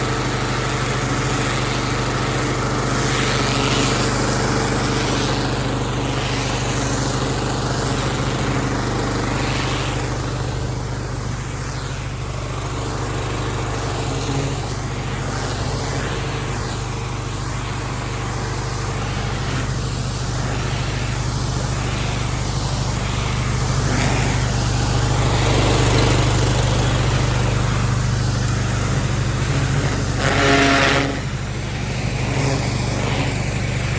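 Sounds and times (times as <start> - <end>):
pressure washer engine running: 0.0 - 33.9.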